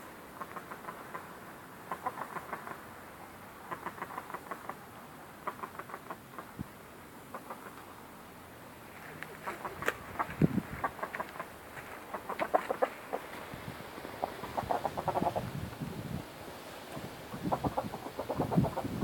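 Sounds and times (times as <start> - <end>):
chickens making quiet ticking sounds: 0.3 - 8.0, 9.0 - 13.5, 14.1 - 16.0, 16.9 - 19.0.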